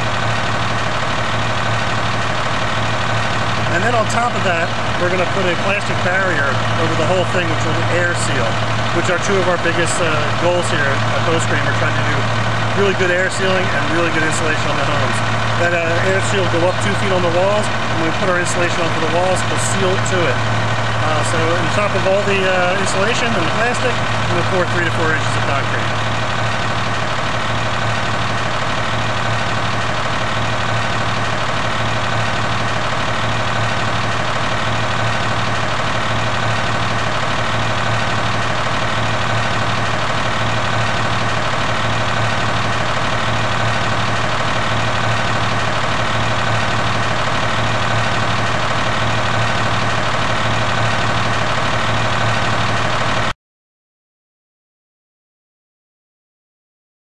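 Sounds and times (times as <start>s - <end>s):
diesel engine droning: 0.0s - 53.3s.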